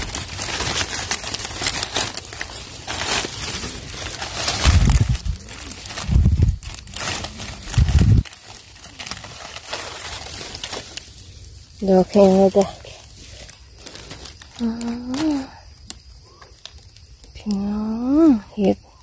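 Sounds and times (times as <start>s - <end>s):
dry leaves rustling and crackling: 0.0s - 18.7s.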